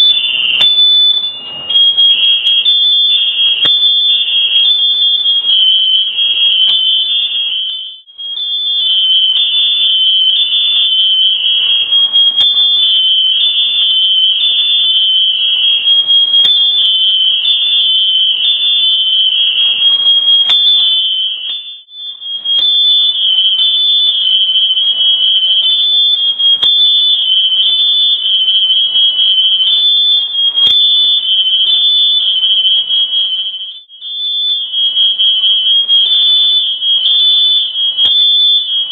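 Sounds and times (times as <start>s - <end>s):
smoke alarm beeping: 0.0s - 38.9s.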